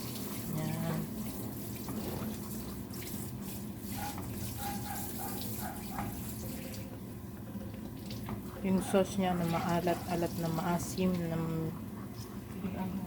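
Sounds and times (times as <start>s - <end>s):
sauce bubbling in a pan: 0.0s - 12.8s.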